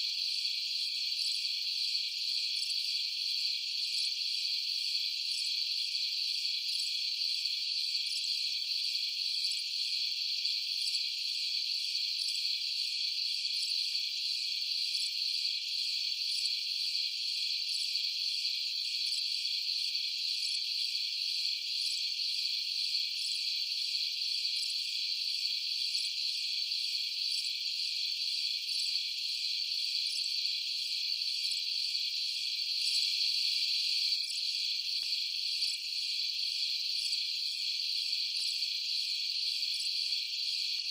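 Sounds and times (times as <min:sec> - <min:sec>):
night insects trilling: 0:00.0 - 0:40.9.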